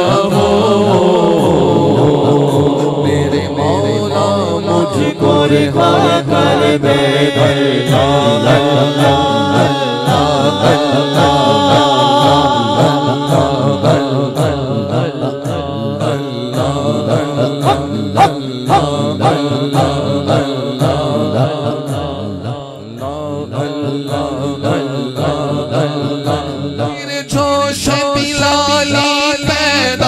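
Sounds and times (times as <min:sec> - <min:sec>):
man singing devotional song: 0:00.0 - 0:30.0.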